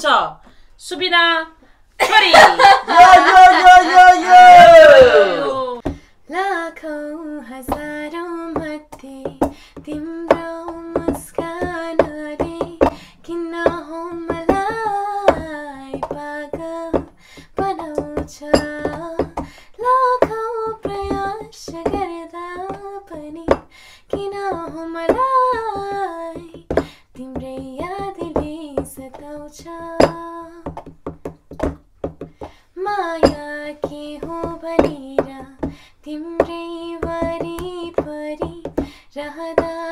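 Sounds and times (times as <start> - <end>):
women singing unaccompanied: 2.9 - 30.8, 32.8 - 39.9.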